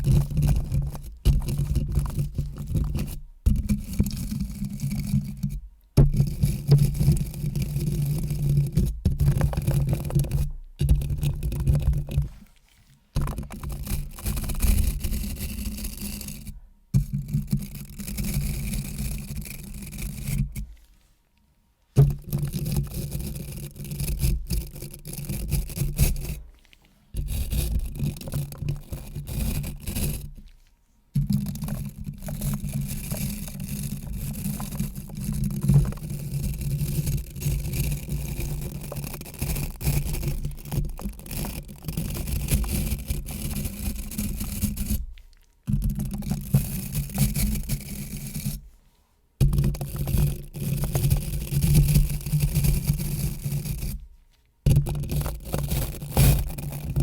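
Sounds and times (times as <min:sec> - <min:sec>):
close scratching and rubbing: 0:00.0 - 0:16.6, 0:17.2 - 0:21.2, 0:22.0 - 0:48.8, 0:49.4 - 0:57.0.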